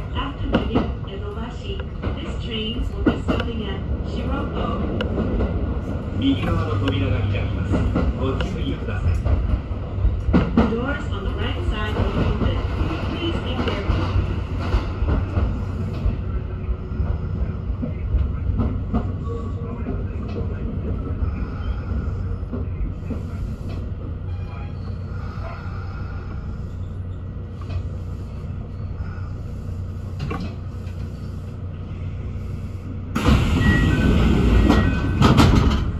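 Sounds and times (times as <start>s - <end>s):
train motors and wheels rumbling: 0.0s - 35.9s.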